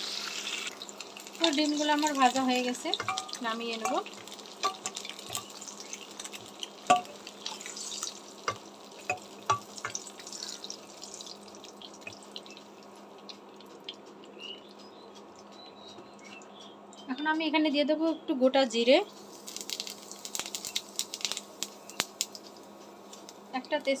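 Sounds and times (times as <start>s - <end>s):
hot oil sizzling and crackling: 0.0s - 15.6s, 18.7s - 24.0s.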